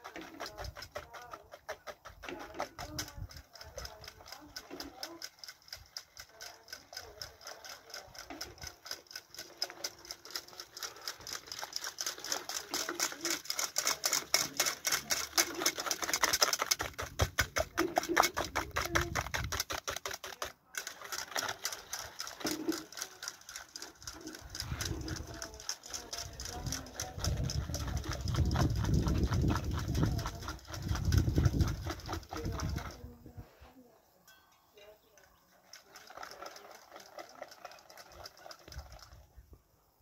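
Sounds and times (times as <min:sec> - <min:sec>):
whisk clattering in metal bowl: 0:00.0 - 0:33.1, 0:35.6 - 0:39.2.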